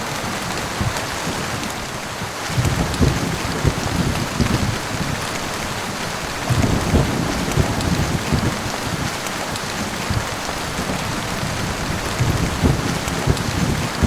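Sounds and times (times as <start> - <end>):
heavy rain hissing: 0.0 - 14.0
low rolling thunder: 2.3 - 14.0.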